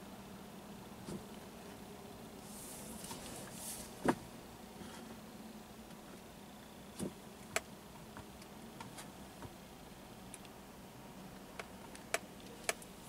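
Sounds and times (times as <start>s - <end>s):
low hum in car cabin: 0.0s - 13.0s.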